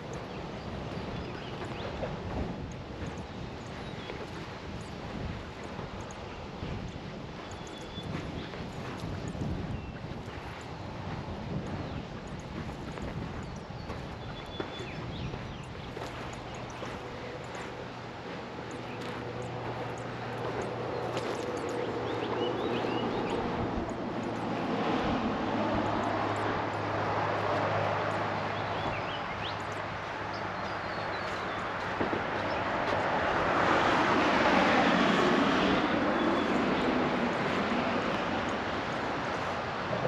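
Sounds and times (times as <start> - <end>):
vehicle passing on road: 0.0 - 40.0.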